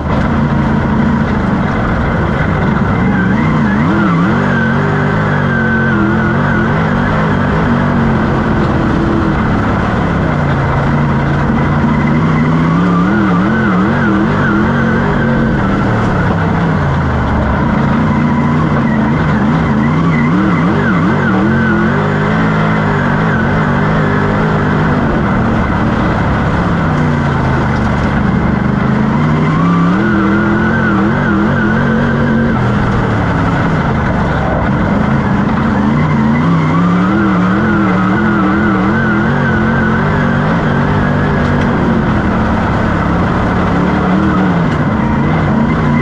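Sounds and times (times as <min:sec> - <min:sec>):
race car engine revving: 0:00.0 - 0:46.0.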